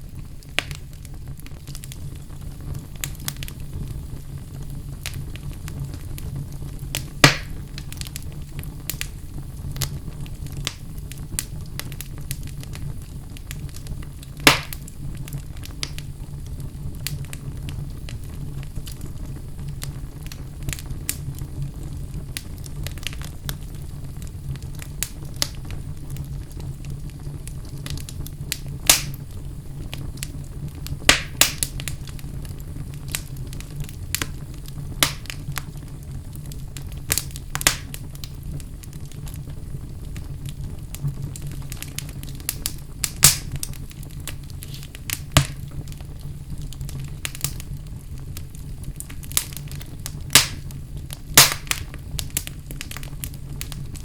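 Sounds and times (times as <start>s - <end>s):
loud fire pops: 0.0s - 54.0s
low rumble of flames: 0.0s - 54.0s
wood fire crackling: 0.0s - 54.0s.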